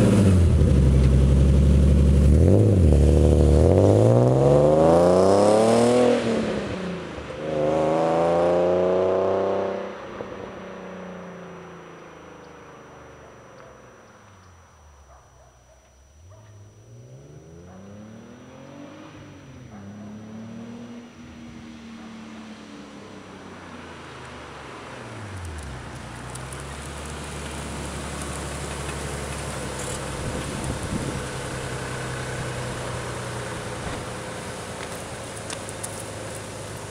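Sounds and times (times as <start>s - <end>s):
car engine revving and idling: 0.0s - 14.4s, 16.6s - 36.9s.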